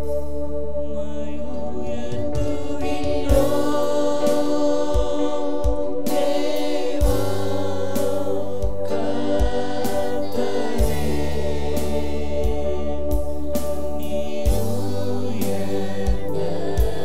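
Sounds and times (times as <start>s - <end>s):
group singing worship song: 0.0s - 17.0s
held instrumental chords: 0.0s - 17.0s.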